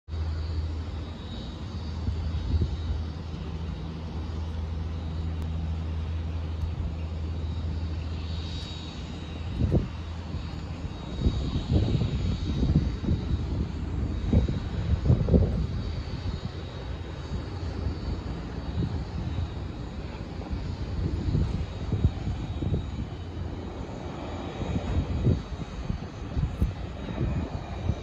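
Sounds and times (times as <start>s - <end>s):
distant jet airliner drone: 0.1s - 28.0s
wind buffeting microphone: 0.2s - 28.0s.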